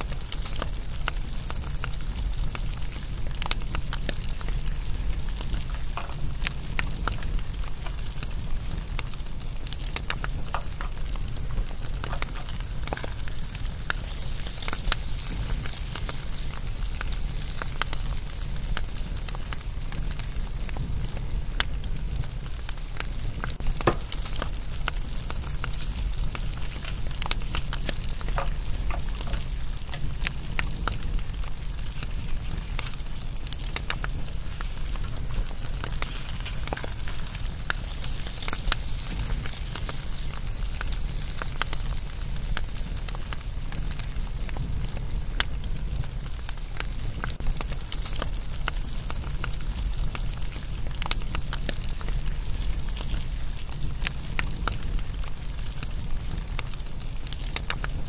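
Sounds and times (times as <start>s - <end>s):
fire popping and snapping: 0.0s - 58.0s
low rumble of flames: 0.0s - 58.0s.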